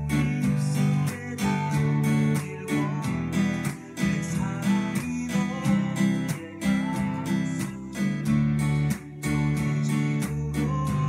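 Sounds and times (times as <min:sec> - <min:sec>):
acoustic guitar strummed: 0:00.0 - 0:11.0.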